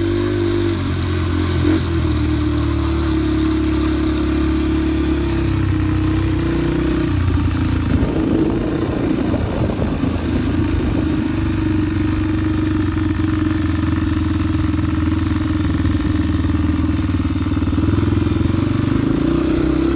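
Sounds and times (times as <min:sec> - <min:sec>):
dirt bike engines buzzing: 0:00.0 - 0:19.9.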